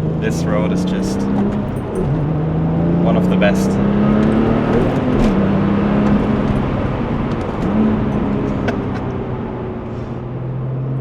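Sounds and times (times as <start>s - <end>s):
car engine revving while driving: 0.0s - 11.0s.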